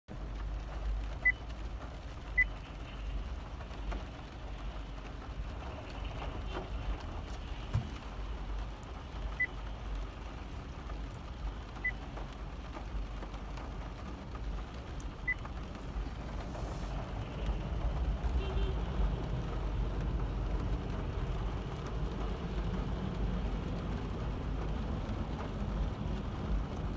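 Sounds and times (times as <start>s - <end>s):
vehicle rumble: 0.1s - 26.9s.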